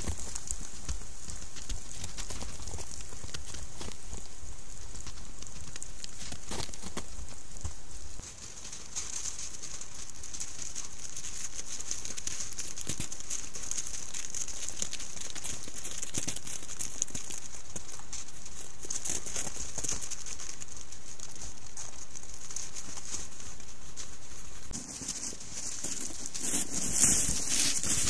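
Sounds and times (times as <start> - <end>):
microphone hiss: 0.0 - 28.0
paws crunching in snow: 0.0 - 28.0.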